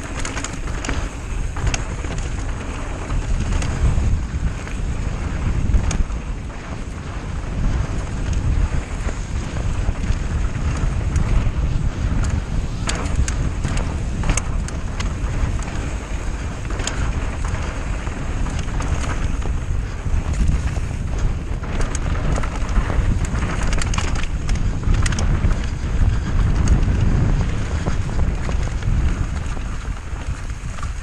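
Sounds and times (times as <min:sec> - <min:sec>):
bike clicks and rattles: 0:00.0 - 0:31.0
bike tyre noise: 0:00.0 - 0:31.0
wind buffeting microphone: 0:00.0 - 0:31.0.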